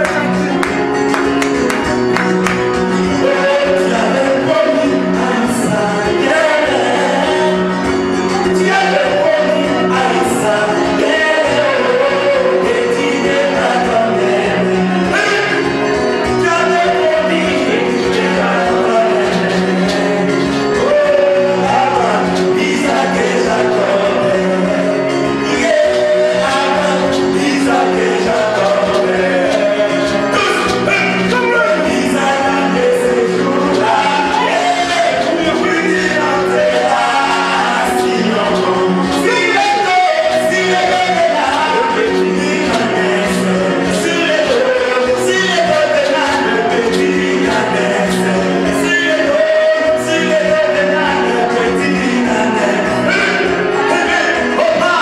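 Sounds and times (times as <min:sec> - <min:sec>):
guitar accompaniment: 0:00.0 - 0:55.0
men singing worship song: 0:00.0 - 0:55.0.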